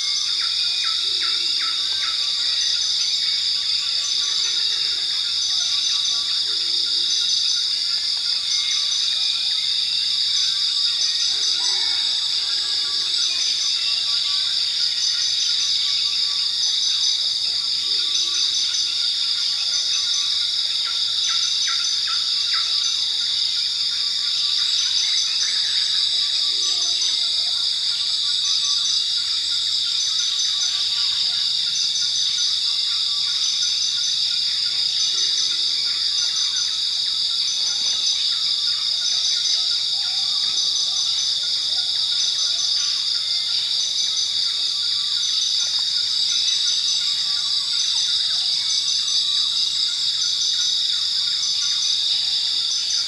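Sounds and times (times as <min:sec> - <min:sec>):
crickets and insects trilling: 0:00.0 - 0:53.0.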